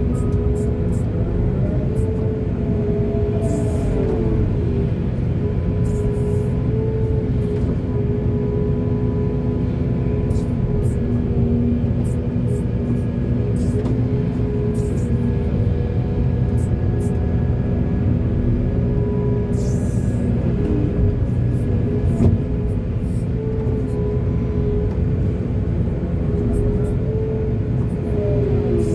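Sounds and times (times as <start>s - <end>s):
diesel machinery droning: 0.0s - 28.9s.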